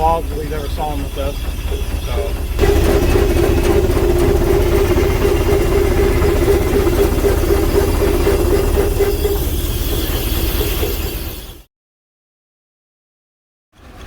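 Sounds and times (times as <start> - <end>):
sawmill sawing logs: 0.0 - 11.6
steam engine running: 0.0 - 11.6.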